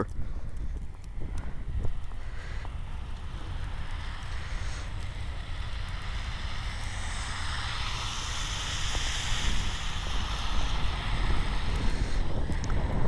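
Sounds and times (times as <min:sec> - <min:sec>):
wind buffeting microphone: 0:00.0 - 0:13.0
vehicle tyre hiss passing: 0:00.9 - 0:13.0.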